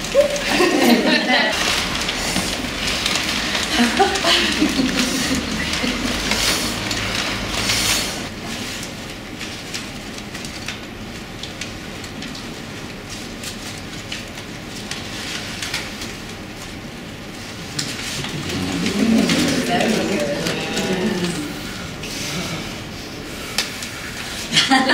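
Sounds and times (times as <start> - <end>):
paper crinkling and rustling: 0.0 - 22.4.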